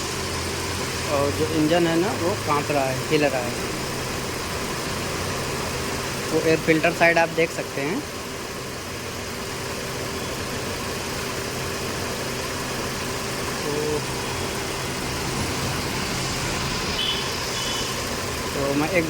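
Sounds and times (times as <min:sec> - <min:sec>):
car engine idling with misfire: 0:00.0 - 0:19.0.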